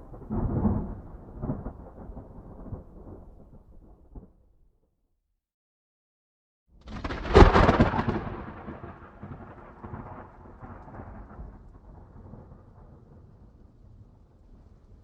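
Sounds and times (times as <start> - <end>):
thunder crack and rumble: 0.0 - 4.5, 6.8 - 15.0.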